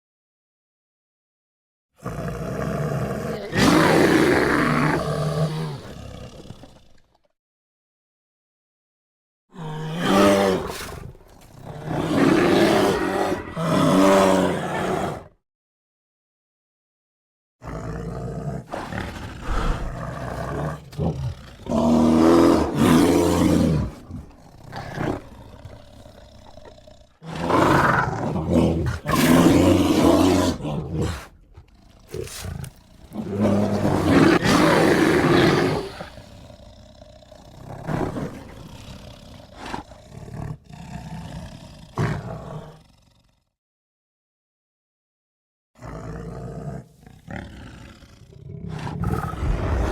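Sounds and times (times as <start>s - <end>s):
bear growling: 2.0s - 7.1s, 9.6s - 15.3s, 17.6s - 43.4s, 45.8s - 49.9s
bear roaring: 2.0s - 7.1s, 9.6s - 15.4s, 17.6s - 43.4s, 45.8s - 49.9s.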